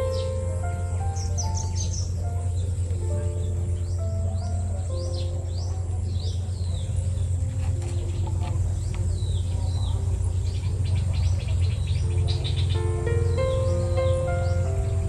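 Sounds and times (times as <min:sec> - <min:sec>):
low hum: 0:00.0 - 0:15.0
small birds chirping: 0:00.0 - 0:15.0
soft background music: 0:00.0 - 0:15.0.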